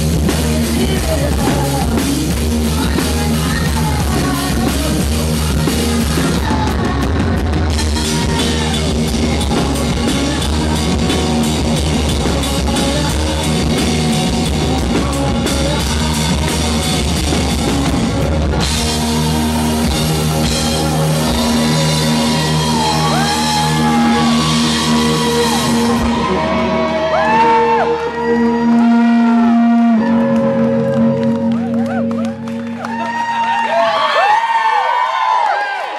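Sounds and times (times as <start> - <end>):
live rock band playing: 0.0 - 33.6
pitch-bending held guitar notes: 0.0 - 34.1.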